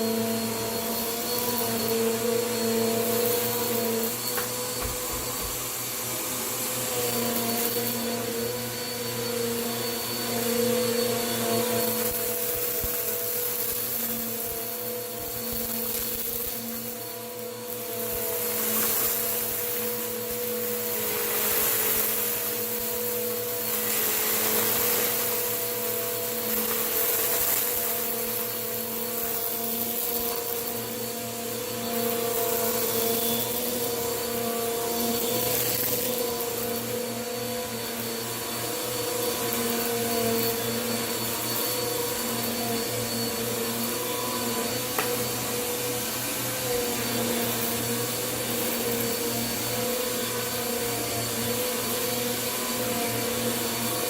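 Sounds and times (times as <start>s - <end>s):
vacuum cleaner motor humming: 0.0s - 54.0s
vacuum sucking up grit: 0.0s - 54.0s.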